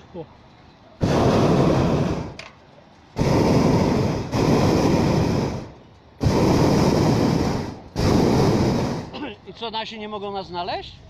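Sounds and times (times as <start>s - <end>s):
propane burner blasts: 0.0s - 10.0s.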